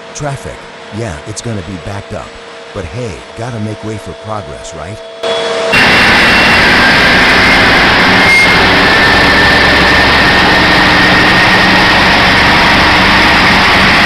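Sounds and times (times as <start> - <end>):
truck engine rumbling: 0.0 - 5.2, 5.8 - 14.0
high whine: 0.0 - 14.0.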